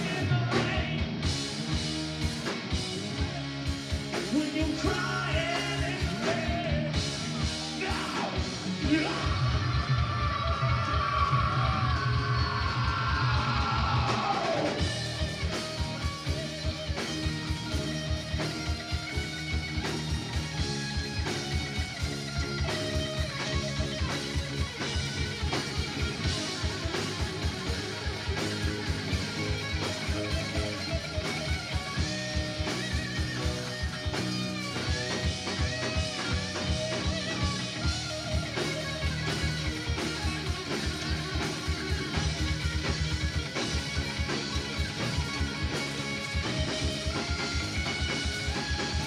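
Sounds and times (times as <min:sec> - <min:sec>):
drum kit beat: 0:00.0 - 0:10.4, 0:13.1 - 0:49.0
bass: 0:00.0 - 0:49.0
electric guitar lead: 0:00.0 - 0:49.0.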